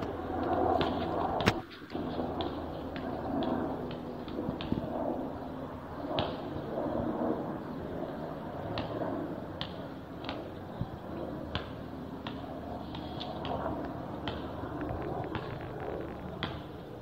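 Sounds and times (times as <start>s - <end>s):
distant helicopter rotor rumble: 0.0s - 17.0s.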